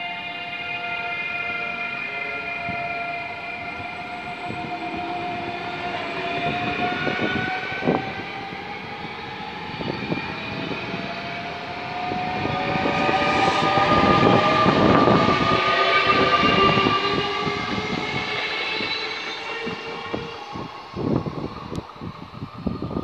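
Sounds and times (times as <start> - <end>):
train wheels rumbling: 1.0 - 23.0.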